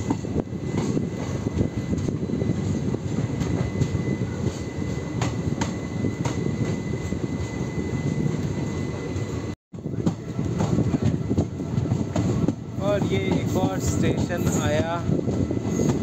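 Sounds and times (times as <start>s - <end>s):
train coach rumbling: 0.0s - 16.0s.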